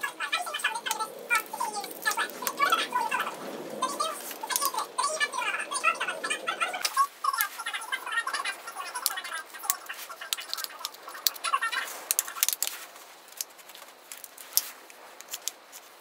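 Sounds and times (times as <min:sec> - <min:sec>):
steel foil crinkling: 0:00.0 - 0:16.0.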